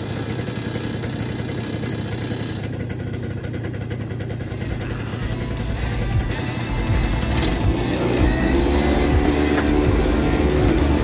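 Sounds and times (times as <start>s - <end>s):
small engine running at low revs: 0.0s - 11.0s.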